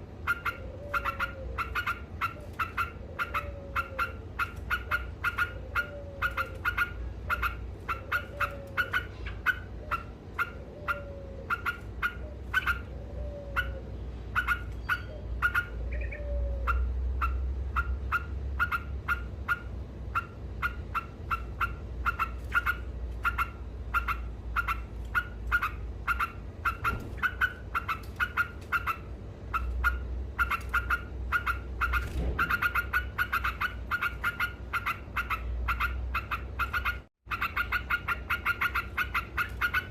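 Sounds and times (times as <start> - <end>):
steady low rumble: 0.0 - 37.2
bird chattering calls: 0.0 - 39.9.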